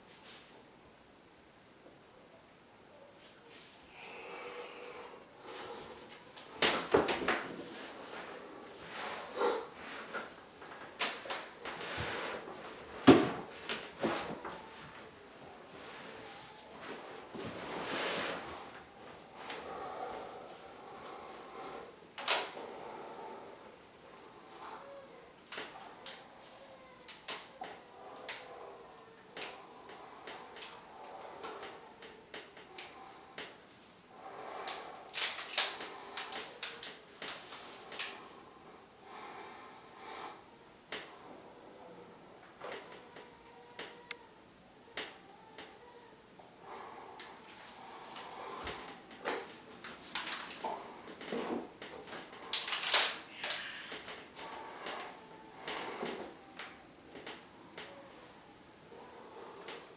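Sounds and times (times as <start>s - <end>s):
faint room noise: 0.0s - 59.9s.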